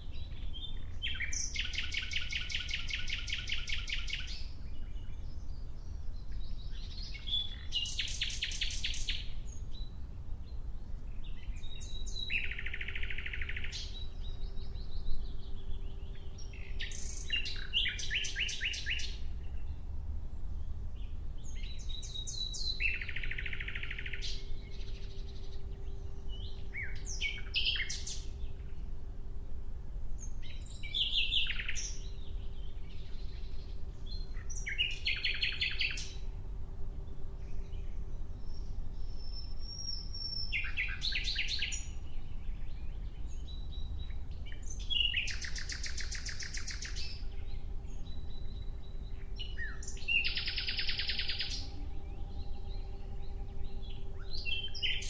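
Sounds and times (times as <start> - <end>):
nightingale singing: 0.0 - 19.9, 20.5 - 29.2, 30.2 - 55.0.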